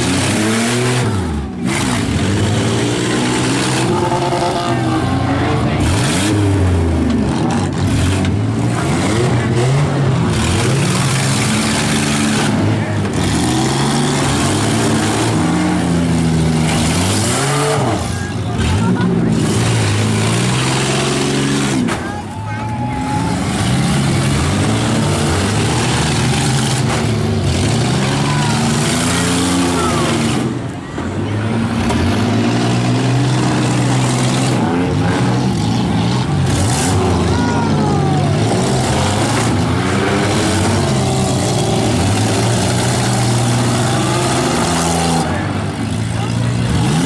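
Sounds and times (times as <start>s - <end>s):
car engines revving hard: 0.0s - 47.0s.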